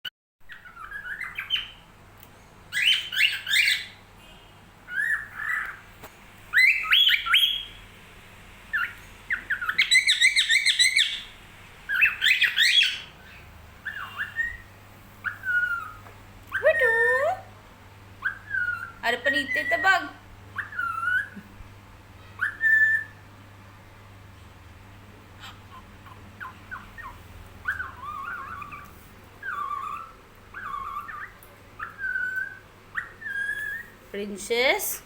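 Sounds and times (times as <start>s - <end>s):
birds chirping and squawking: 0.5s - 2.0s, 2.7s - 8.0s, 8.7s - 17.5s, 18.1s - 21.5s, 22.1s - 23.3s, 25.2s - 35.0s.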